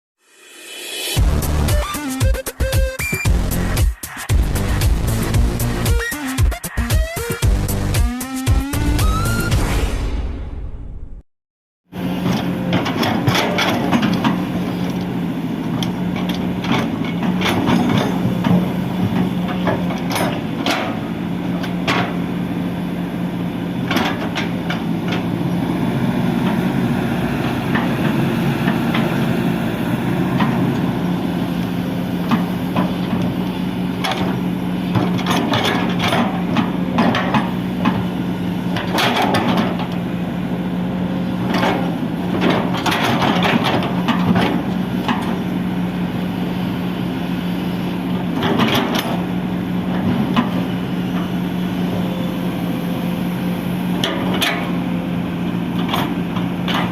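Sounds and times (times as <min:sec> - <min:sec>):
excavator diesel engine running: 0:01.2 - 0:09.7, 0:11.9 - 0:56.9.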